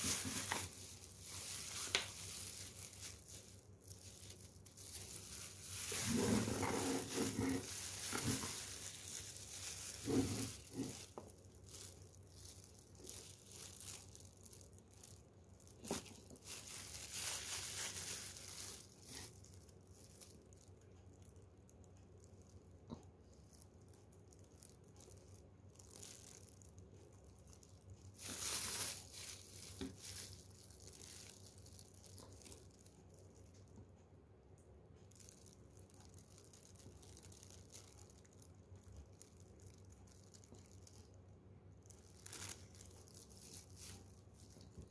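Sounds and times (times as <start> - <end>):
plastic gloves crinkling: 0.0 - 34.0, 34.9 - 44.9.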